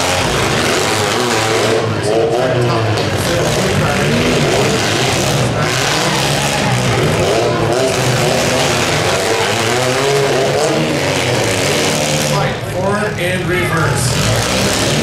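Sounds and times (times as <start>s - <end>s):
car engines revving hard: 0.0s - 15.0s
cars grinding against each other: 0.0s - 15.0s.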